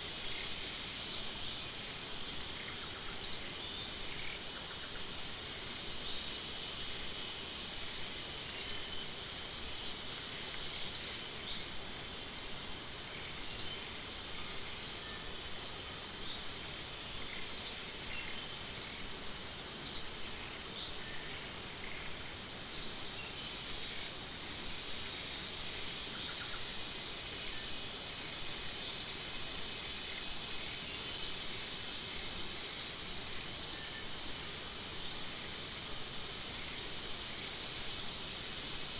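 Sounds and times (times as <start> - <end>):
insect drone: 0.0 - 38.9.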